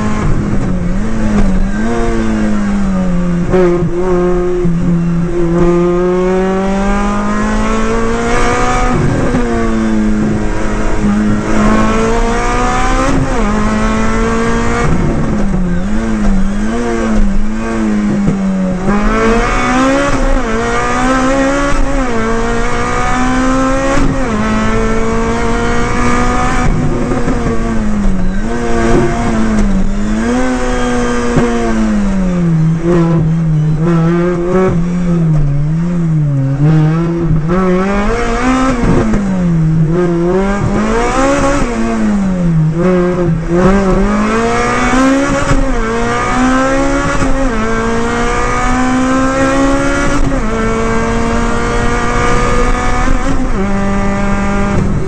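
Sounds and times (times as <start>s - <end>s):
rally car engine revving: 0.0s - 55.0s
road and tyre noise: 0.0s - 55.0s.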